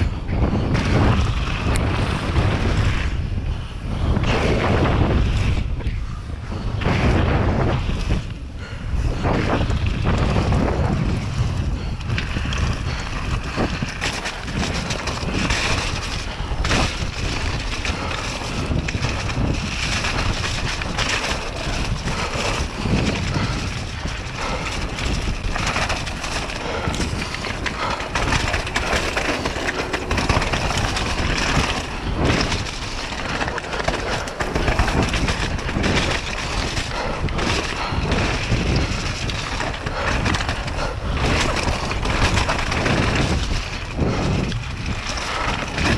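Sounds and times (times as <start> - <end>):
bike knocking and rattling: 0.0 - 45.9
bike tyres rolling over dirt: 0.0 - 45.9
wind buffeting microphone: 0.0 - 45.9.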